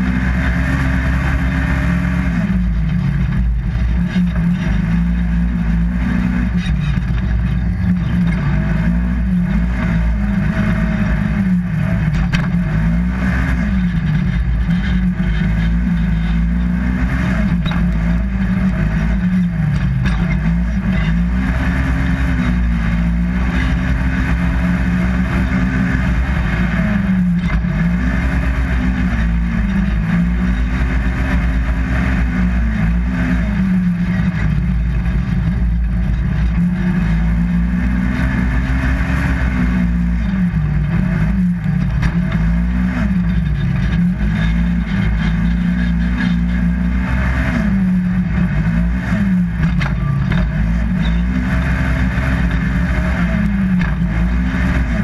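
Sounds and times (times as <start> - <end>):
engine running hard: 0.0 - 55.0.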